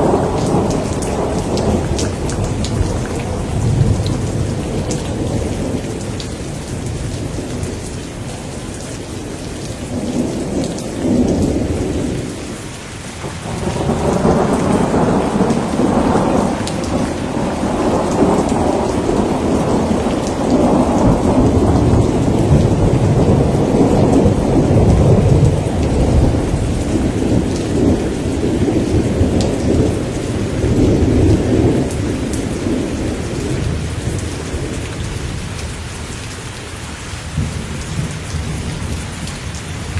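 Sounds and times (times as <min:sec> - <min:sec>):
thunder rumbling: 0:00.0 - 0:36.4
steady rain: 0:00.0 - 0:39.9.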